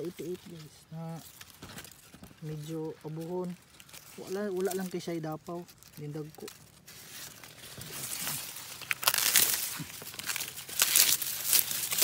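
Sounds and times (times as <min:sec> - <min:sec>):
cane leaves rustling and crackling: 0:00.0 - 0:12.0.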